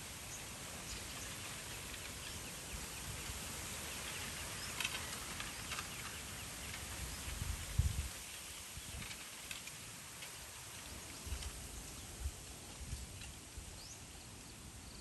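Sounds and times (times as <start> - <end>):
small birds chirping: 0.0 - 9.6, 10.3 - 15.0
outdoor hiss: 0.0 - 15.0.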